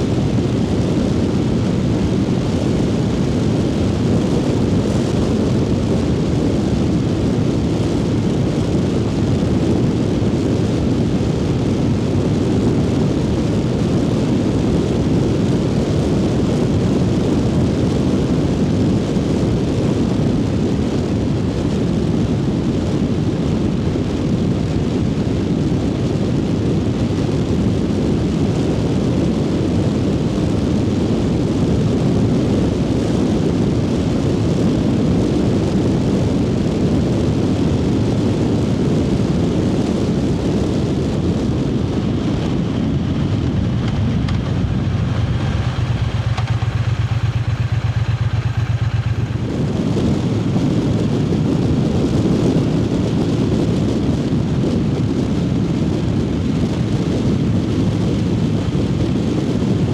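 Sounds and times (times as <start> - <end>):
motorcycle engine cruising: 0.0 - 59.9
wind noise: 0.0 - 59.9.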